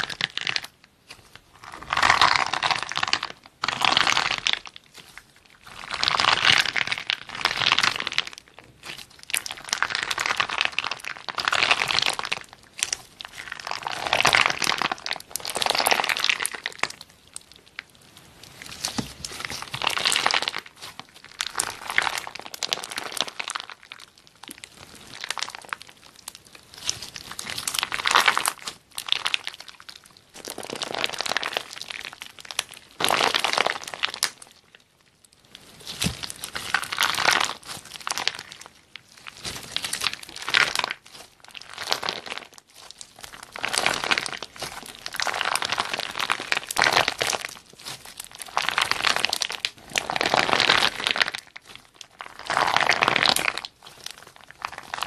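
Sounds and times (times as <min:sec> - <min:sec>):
slime crackling and popping: 0:00.0 - 0:55.0.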